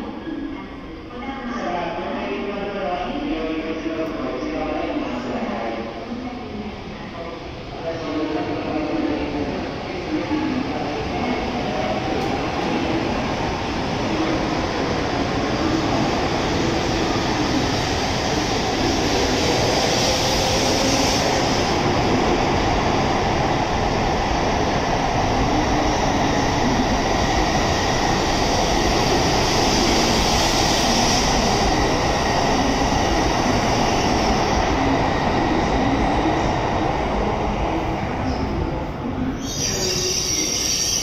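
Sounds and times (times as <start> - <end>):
train running noise: 6.5 - 41.0.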